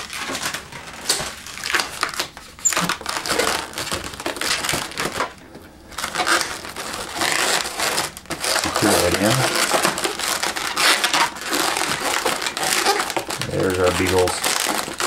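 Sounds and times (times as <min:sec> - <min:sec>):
balloons rubbing and squeezing: 0:01.4 - 0:15.0.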